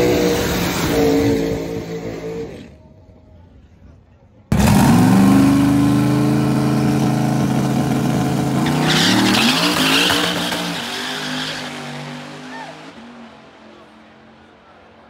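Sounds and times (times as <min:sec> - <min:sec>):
car engine revving: 0:00.0 - 0:02.8, 0:04.5 - 0:14.5.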